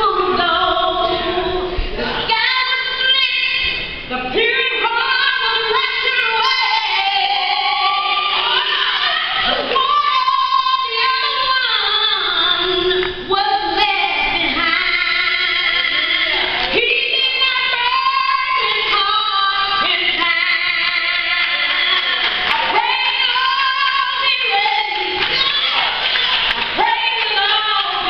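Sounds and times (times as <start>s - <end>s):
woman singing gospel song: 0.0s - 28.0s.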